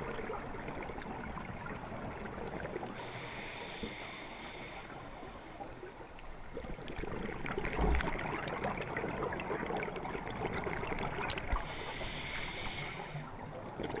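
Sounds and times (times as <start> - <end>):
underwater bubbles gurgling: 0.0 - 14.0.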